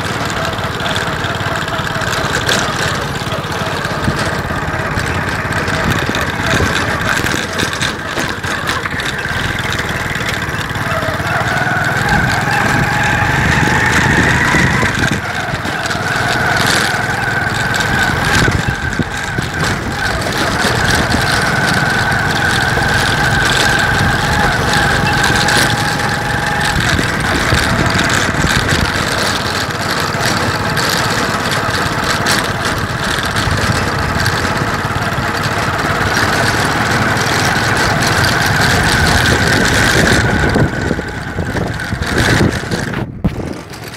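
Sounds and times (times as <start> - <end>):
engine running with a whine: 0.0 - 43.9.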